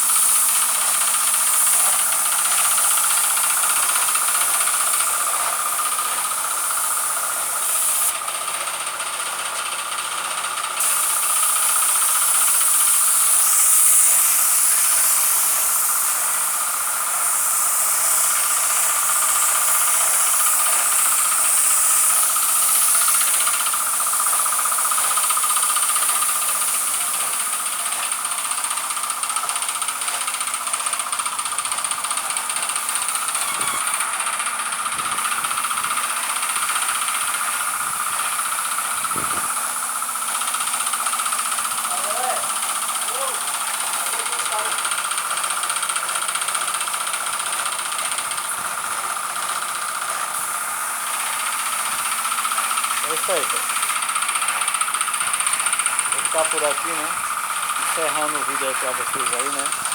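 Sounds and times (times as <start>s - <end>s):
fast machine pulse: 0.0s - 59.9s
motor running: 0.0s - 59.9s
paint spray gun hissing: 0.0s - 59.9s.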